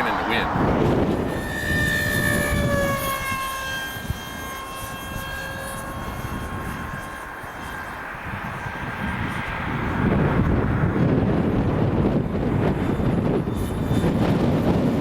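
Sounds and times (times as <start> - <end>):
wind noise on microphone: 0.0 - 15.0
model plane motor whining: 0.7 - 15.0.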